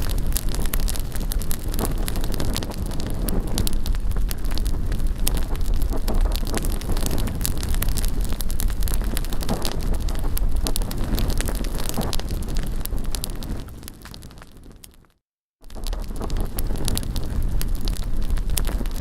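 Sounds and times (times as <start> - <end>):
bonfire crackling and popping: 0.0 - 19.0
wind rumble on microphone: 0.0 - 19.0.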